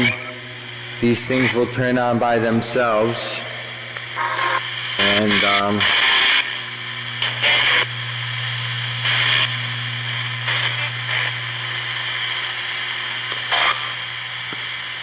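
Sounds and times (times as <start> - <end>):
choppy radio fragments: 0.0 - 15.0
radio low hum: 0.0 - 15.0
static bursts: 0.0 - 15.0.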